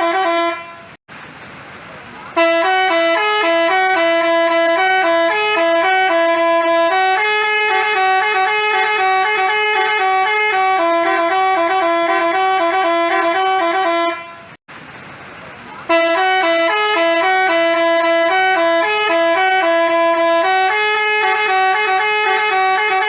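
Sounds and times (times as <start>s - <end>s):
multi-tone bus horn tune: 0.0s - 1.0s, 2.3s - 14.6s, 15.8s - 23.0s.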